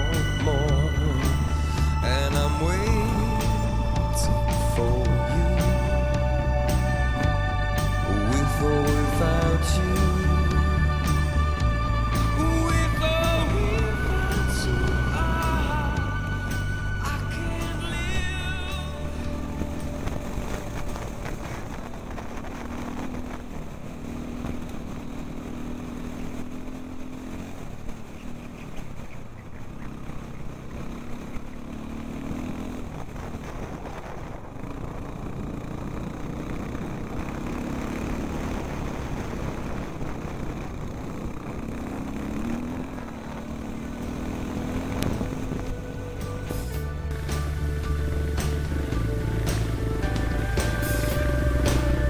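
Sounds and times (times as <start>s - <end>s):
motorcycle engine revving: 0.0s - 52.0s
wind and road noise: 0.0s - 52.0s.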